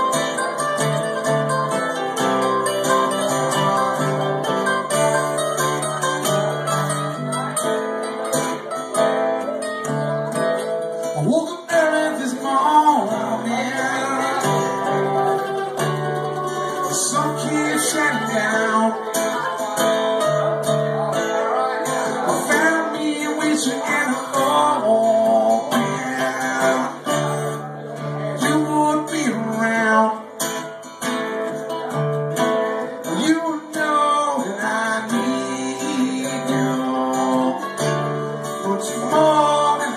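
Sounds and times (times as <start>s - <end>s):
acoustic guitar strumming: 0.0s - 39.9s
mandolin picking melodic runs: 0.0s - 39.9s.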